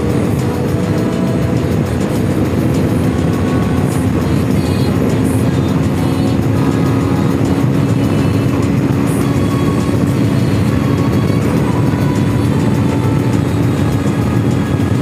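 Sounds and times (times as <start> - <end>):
motorcycle engine cruising: 0.0 - 15.0
music playing: 0.0 - 15.0.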